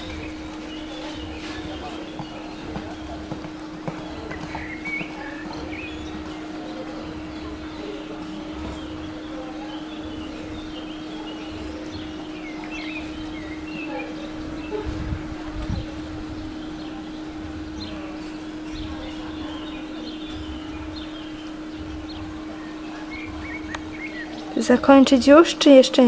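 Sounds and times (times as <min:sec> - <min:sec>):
small birds chirping: 0:00.0 - 0:26.0
steady low hum: 0:00.0 - 0:26.0.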